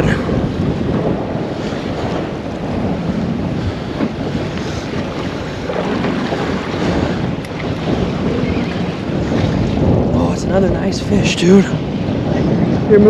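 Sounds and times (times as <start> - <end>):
water washing against hull: 0.0 - 13.0
wind buffeting microphone: 0.0 - 13.0.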